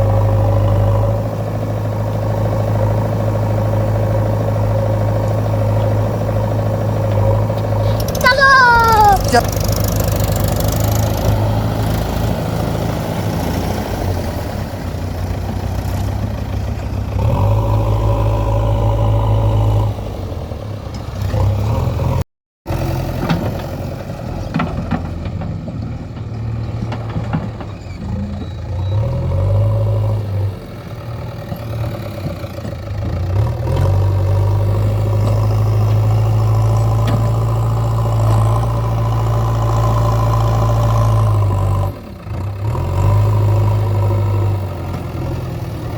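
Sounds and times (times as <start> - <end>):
diesel engines of heavy machinery: 0.0 - 45.9.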